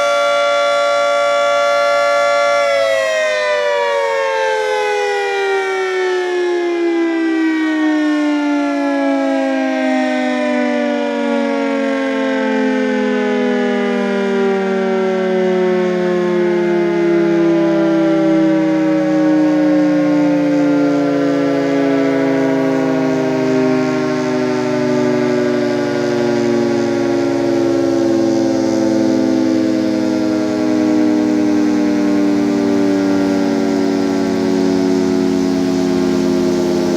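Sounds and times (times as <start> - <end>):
warning siren winding down: 0.0 - 36.9.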